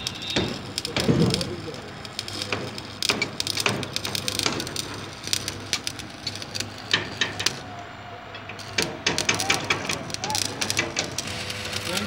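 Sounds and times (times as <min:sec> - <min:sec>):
welding arc crackling: 0:00.0 - 0:07.8, 0:08.5 - 0:12.0.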